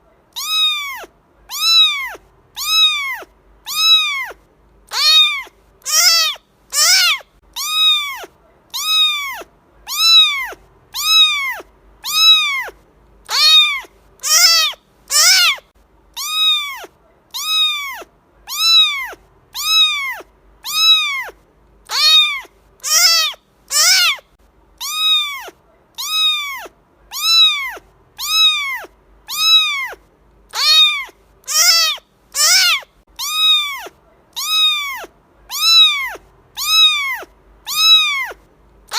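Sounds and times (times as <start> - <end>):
cat meowing: 0.3 - 15.6, 16.2 - 24.2, 24.8 - 38.9.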